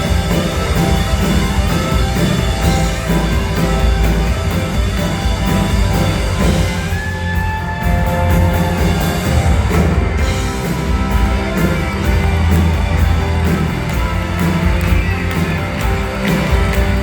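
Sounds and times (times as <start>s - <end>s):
rock band playing live: 0.0s - 17.0s
steady drum beat: 0.0s - 17.0s.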